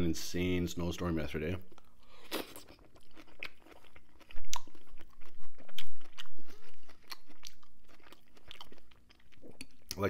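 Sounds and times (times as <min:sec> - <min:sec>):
chewing mouth clicks: 0:01.7 - 0:10.0.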